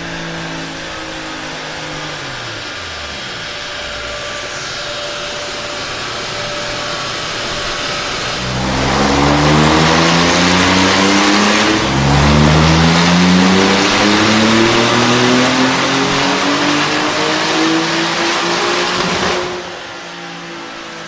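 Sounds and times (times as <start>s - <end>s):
car engine revving on dyno: 0.0s - 21.0s.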